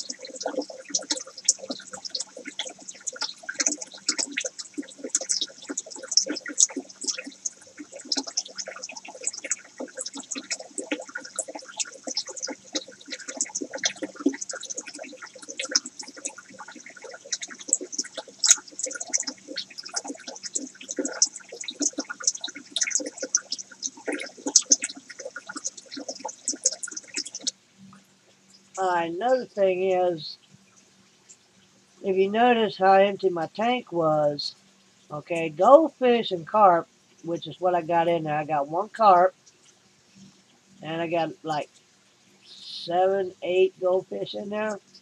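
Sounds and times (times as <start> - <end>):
faint steady hum: 0.0 - 45.0
water splashing and bubbling: 0.0 - 45.0.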